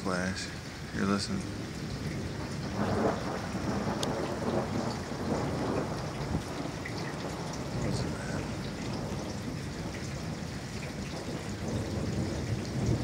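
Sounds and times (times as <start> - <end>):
rolling thunder rumble: 1.4 - 13.0.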